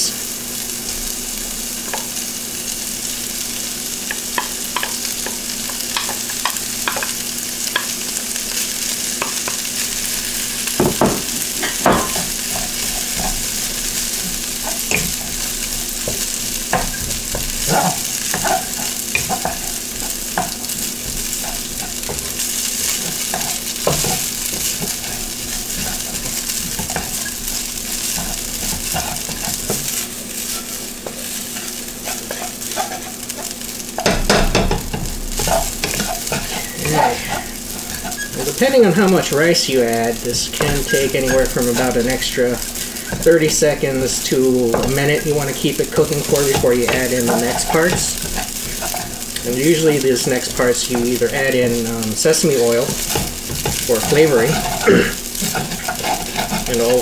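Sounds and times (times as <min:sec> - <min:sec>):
food sizzling in a wok: 0:00.0 - 0:57.0
spatula scraping a wok: 0:03.6 - 0:57.0.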